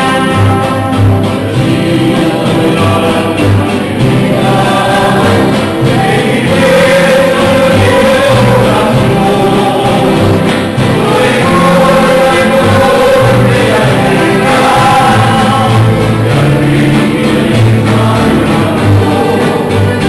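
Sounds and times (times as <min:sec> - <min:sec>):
strummed guitars: 0:00.0 - 0:20.0
voices singing together: 0:00.0 - 0:20.0.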